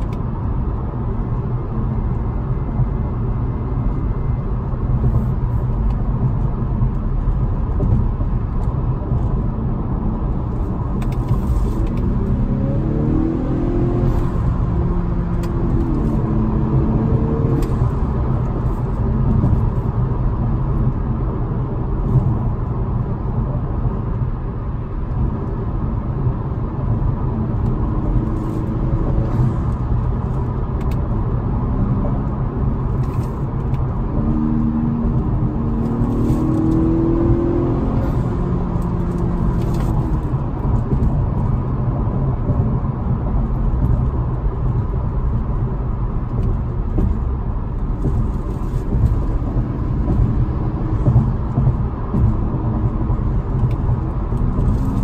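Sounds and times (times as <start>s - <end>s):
car engine: 0.0s - 55.0s
road noise inside car: 0.0s - 55.0s.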